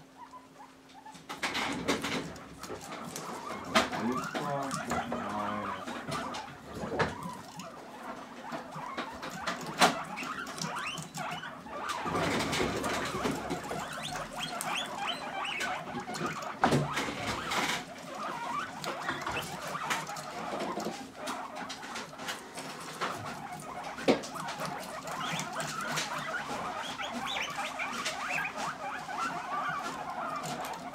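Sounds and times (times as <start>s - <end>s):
guinea pigs chewing: 0.0s - 30.9s
guinea pigs squeaking: 0.0s - 30.9s
rustling in wood shavings: 2.2s - 30.9s.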